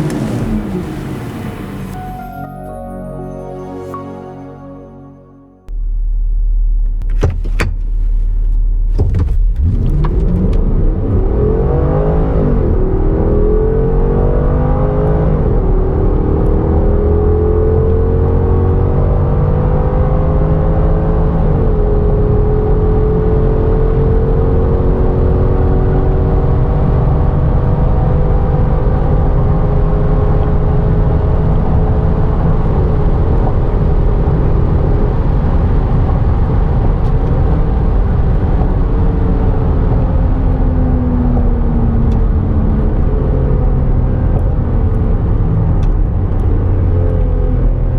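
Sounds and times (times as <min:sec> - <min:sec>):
car engine accelerating: 0:00.0 - 0:02.3, 0:05.7 - 0:47.9.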